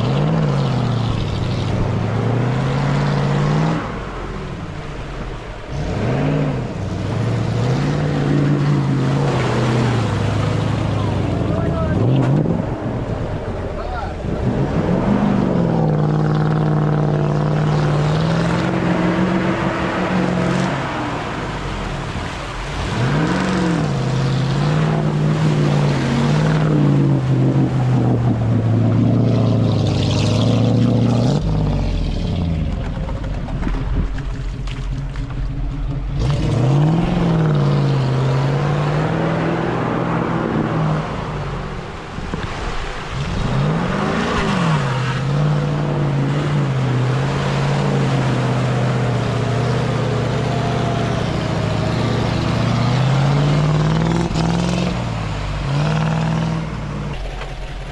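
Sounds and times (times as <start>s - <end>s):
off-road vehicle engine revving: 0.0s - 57.9s.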